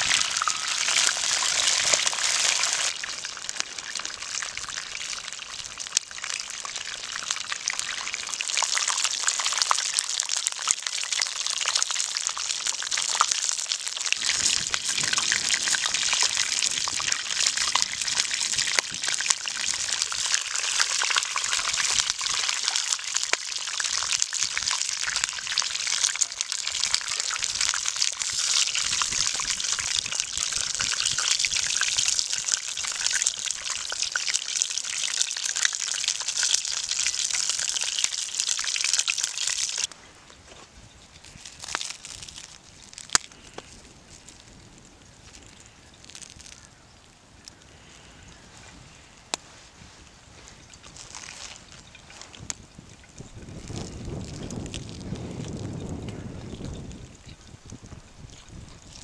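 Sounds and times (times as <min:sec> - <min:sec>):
food deep-frying in oil: 0:00.0 - 0:39.9, 0:40.8 - 0:59.0.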